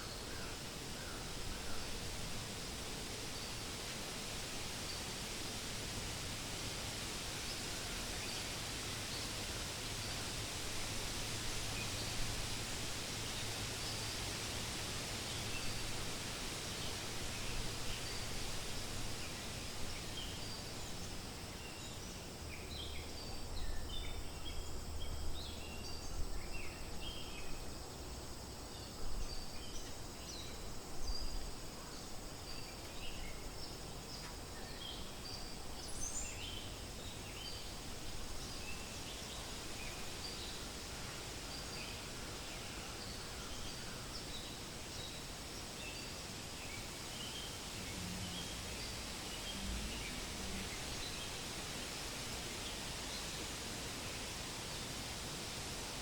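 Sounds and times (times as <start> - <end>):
wind rustling leaves: 0.0 - 56.0.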